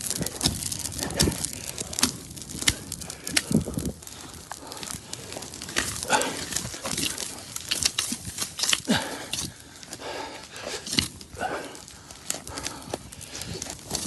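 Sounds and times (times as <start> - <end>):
burning brush crackling: 0.0 - 14.0.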